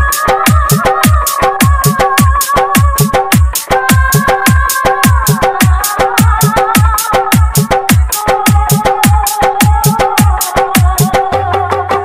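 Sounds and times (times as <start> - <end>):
heavy kick drum: 0.0 - 11.3
electronic dance music: 0.0 - 12.0.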